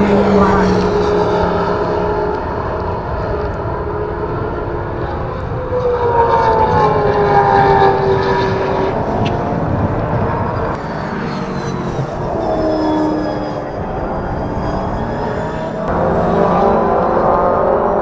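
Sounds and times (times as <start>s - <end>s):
race car engine passing at speed: 0.0s - 18.0s.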